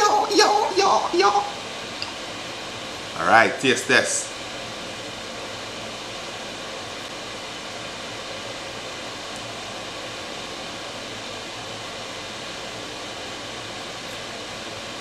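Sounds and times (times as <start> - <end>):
room noise hiss: 0.0 - 15.0.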